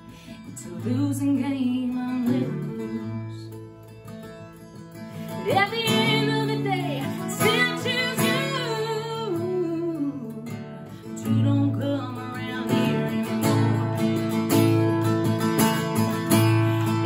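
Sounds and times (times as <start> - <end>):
acoustic guitar strumming: 0.0 - 17.0
woman singing country song: 0.0 - 17.0.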